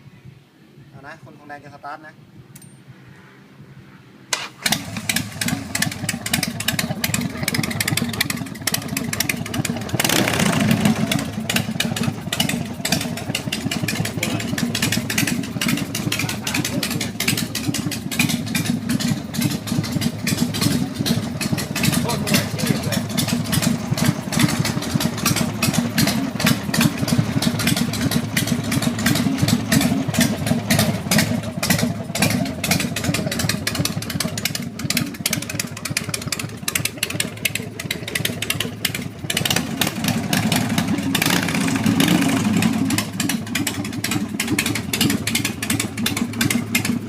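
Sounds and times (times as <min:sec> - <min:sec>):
engine running: 0:04.3 - 0:47.0.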